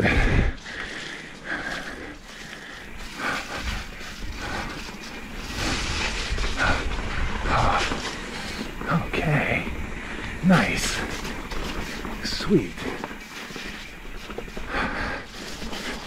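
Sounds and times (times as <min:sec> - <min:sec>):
bike rattling over bumps: 0:00.0 - 0:16.0
bike tyres rolling on dirt: 0:00.0 - 0:16.0
rider breathing hard: 0:00.0 - 0:16.0.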